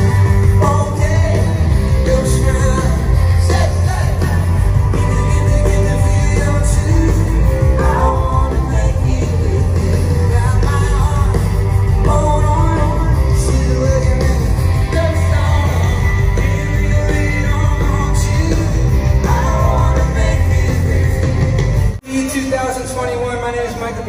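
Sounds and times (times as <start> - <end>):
person singing: 0.0 - 21.6
live band with guitar bass drums: 0.0 - 24.0.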